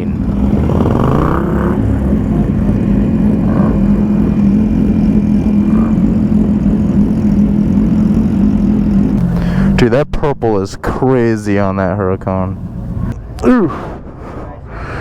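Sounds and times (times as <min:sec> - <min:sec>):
vehicle engine running: 0:00.0 - 0:13.7
engine revving: 0:00.0 - 0:14.1.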